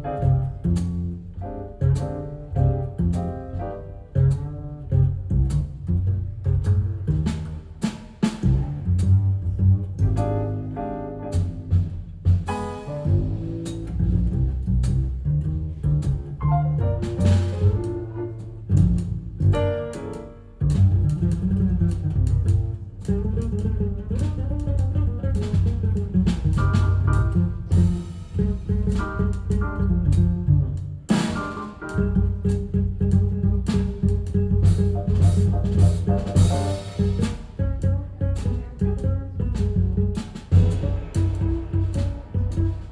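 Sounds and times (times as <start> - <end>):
double bass: 0.0 - 42.9.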